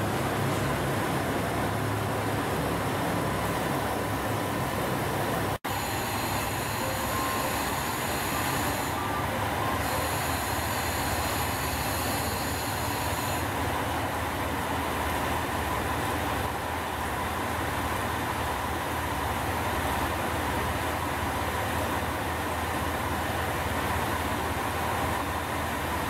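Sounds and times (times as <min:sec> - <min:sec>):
diesel railcar engine idling: 0:00.0 - 0:26.0.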